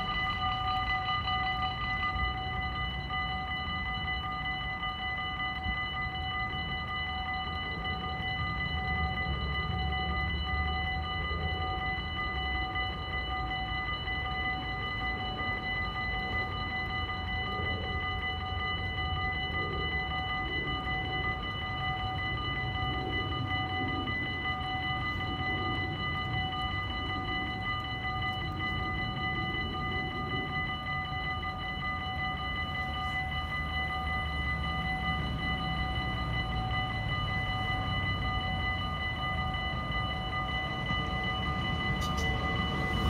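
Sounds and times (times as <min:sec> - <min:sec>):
level crossing warning bells: 0:00.0 - 0:43.0.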